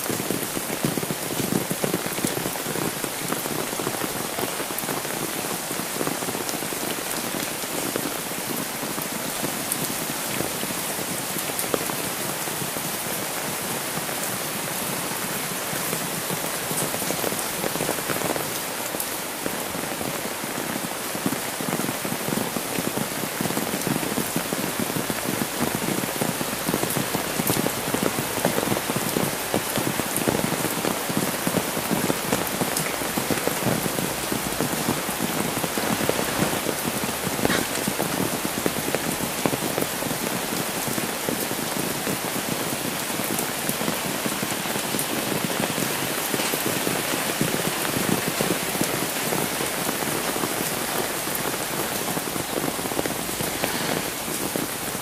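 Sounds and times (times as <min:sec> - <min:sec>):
heavy rain hissing: 0:00.0 - 0:55.0
raindrops hitting close by: 0:00.0 - 0:55.0.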